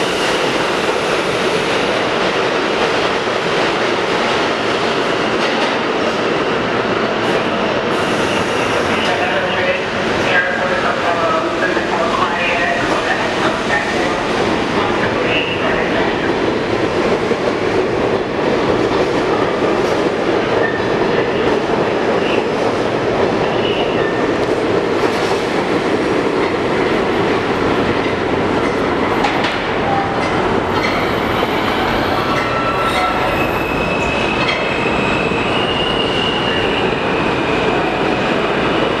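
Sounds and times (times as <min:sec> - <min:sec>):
subway train wheels rumbling: 0:00.0 - 0:39.0.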